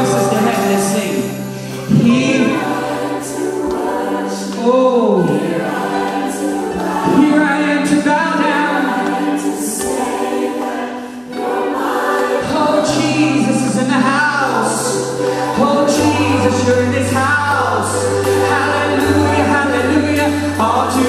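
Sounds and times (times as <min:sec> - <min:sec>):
group of voices singing: 0:00.0 - 0:21.0
sustained held chords: 0:00.0 - 0:21.0.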